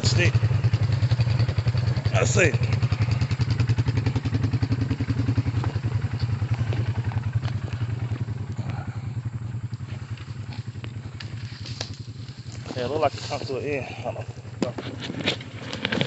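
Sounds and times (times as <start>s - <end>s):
atv engine running at low speed: 0.0s - 16.0s.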